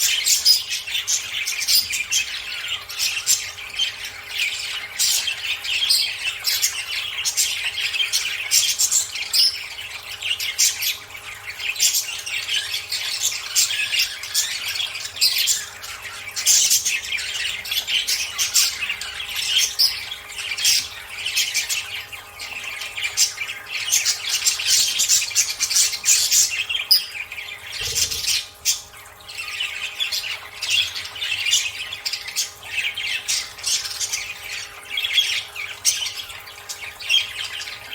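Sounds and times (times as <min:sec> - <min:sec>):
budgerigars chattering and squawking: 0:00.0 - 0:37.9.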